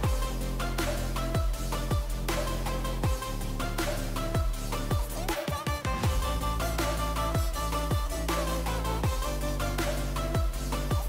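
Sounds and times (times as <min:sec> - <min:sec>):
electronic beat music: 0:00.0 - 0:11.0.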